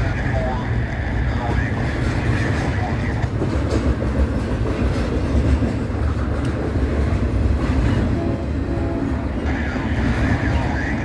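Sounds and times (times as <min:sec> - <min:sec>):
steel wheels rumbling on rail: 0:00.0 - 0:11.0.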